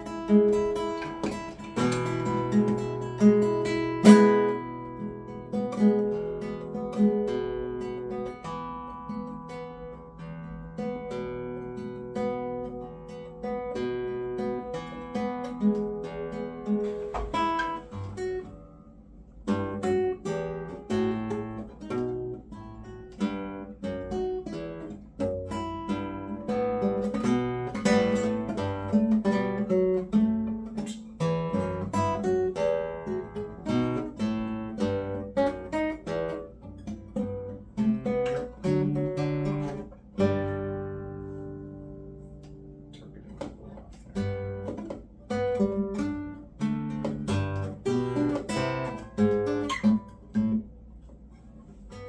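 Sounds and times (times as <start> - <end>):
guitar picking and strumming: 0.0 - 52.0.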